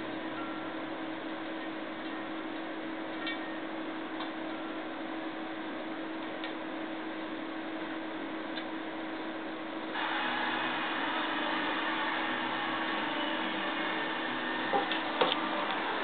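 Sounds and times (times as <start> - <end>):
mechanical whir with low hum: 0.0 - 16.0.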